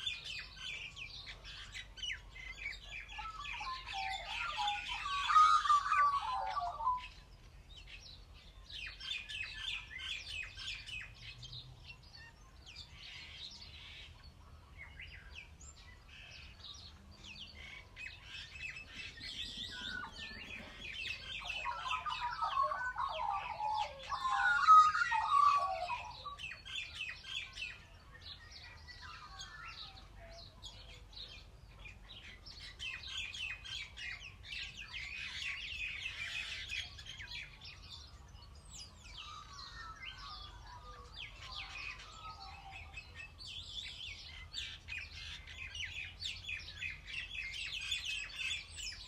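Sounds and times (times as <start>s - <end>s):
low warbling birdsong: 0.0s - 49.0s
small birds chirping: 0.0s - 49.0s.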